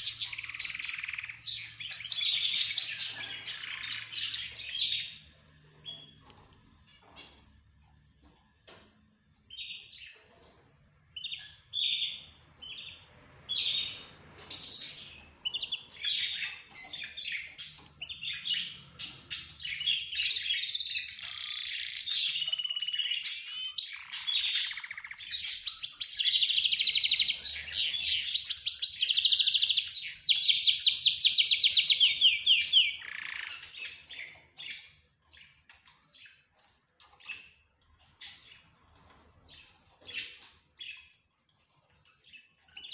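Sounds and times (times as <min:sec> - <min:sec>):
cage birds chirping and trilling: 0:00.0 - 0:42.9.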